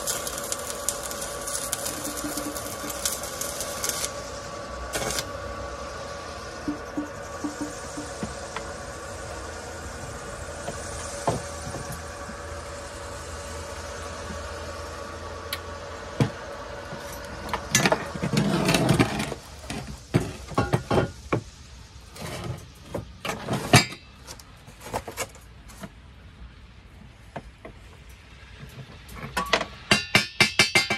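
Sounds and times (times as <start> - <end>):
steady hum with hiss: 0.0 - 30.9.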